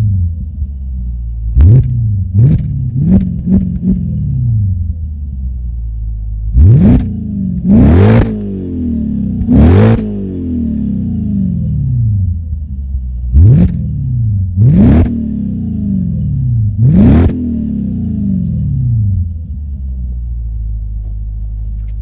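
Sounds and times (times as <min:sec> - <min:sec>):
car engine revving: 0:00.0 - 0:05.7, 0:06.3 - 0:22.0.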